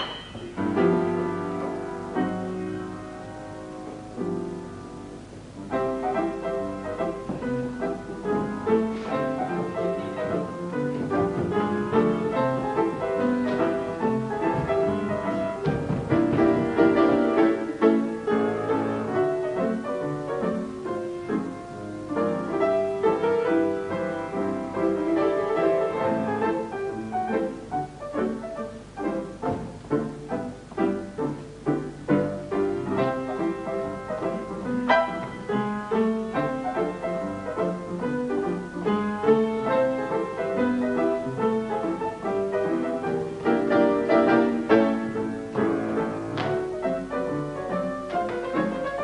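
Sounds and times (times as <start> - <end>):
piano-led instrumental music: 0.0 - 49.0.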